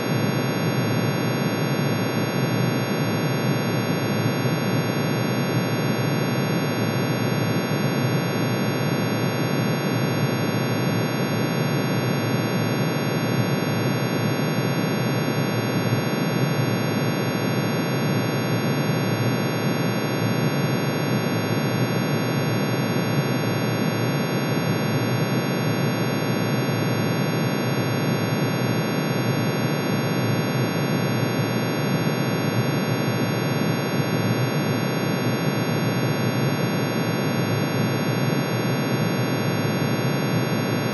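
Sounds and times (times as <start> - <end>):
synthesized sine-wave drone: 0.0 - 40.9.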